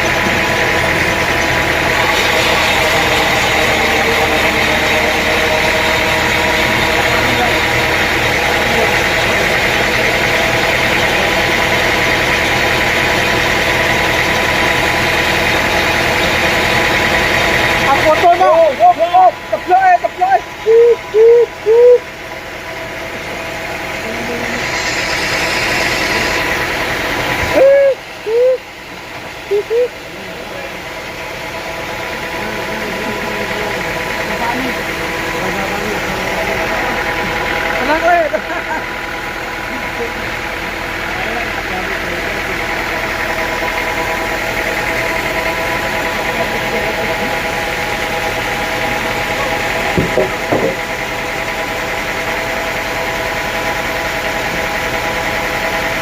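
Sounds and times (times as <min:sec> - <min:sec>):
loud rising-and-falling tones: 0:00.0 - 0:52.1
engine running steadily: 0:00.0 - 0:56.0
saw cutting through log: 0:00.0 - 0:56.0
sawmill machinery drone: 0:00.0 - 0:56.0.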